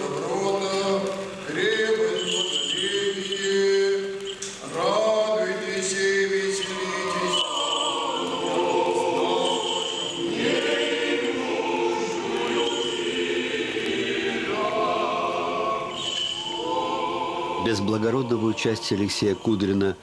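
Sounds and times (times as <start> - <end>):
church choir chanting: 0.0 - 20.0.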